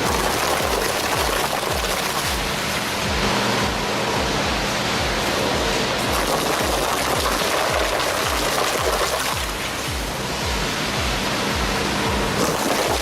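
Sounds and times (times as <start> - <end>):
loud steady rushing noise: 0.0 - 13.0
music with steady beat: 0.0 - 13.0.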